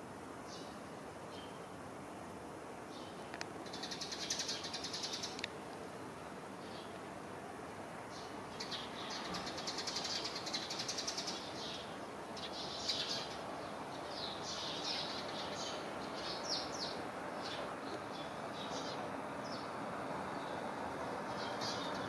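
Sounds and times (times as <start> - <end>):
songbirds chirping and chattering: 0.2 - 22.0.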